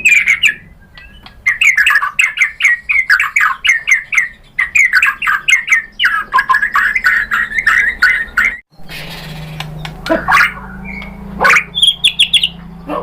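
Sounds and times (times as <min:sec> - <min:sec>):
bird calling in sharp down-slurred notes: 0:00.0 - 0:13.0.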